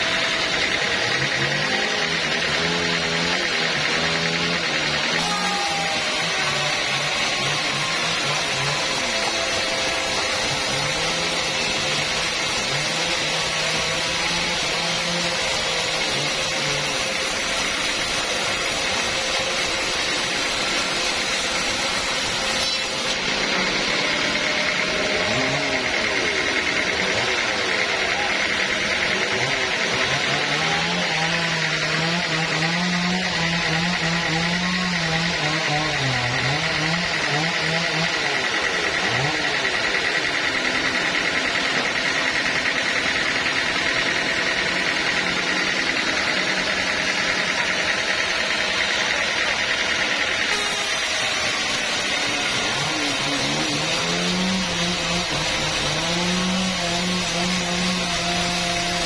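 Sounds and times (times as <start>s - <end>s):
motor under load: 0.0s - 59.0s
saw blade high whine: 0.0s - 59.0s.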